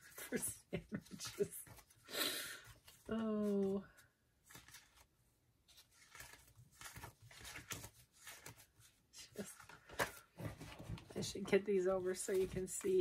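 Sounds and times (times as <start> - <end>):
paper cards rustling: 0.0 - 13.0.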